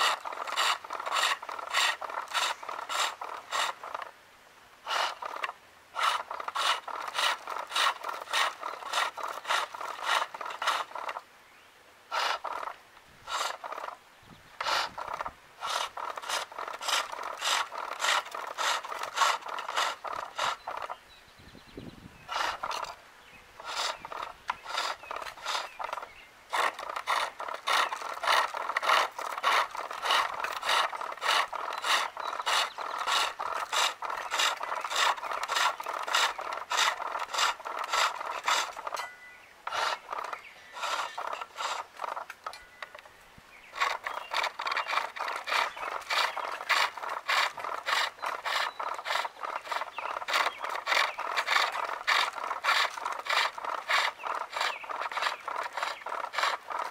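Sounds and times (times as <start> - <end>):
chisel shaving wood on lathe: 0.0 - 4.1, 4.9 - 11.2, 12.1 - 14.0, 14.6 - 21.0, 22.3 - 22.9, 23.6 - 39.0, 39.7 - 42.5, 43.8 - 56.9.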